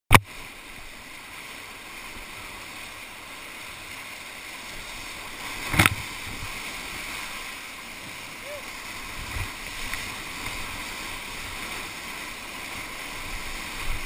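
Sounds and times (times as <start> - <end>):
whitewater rushing: 0.1 - 14.0.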